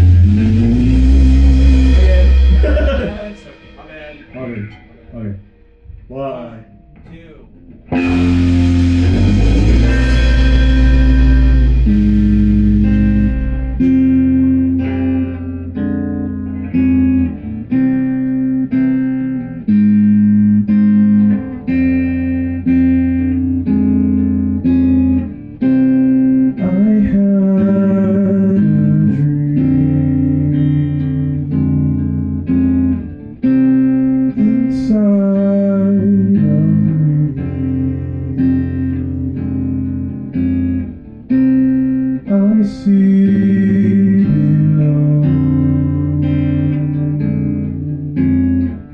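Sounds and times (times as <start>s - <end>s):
band playing guitar-led music: 0.0s - 5.7s, 6.7s - 48.9s.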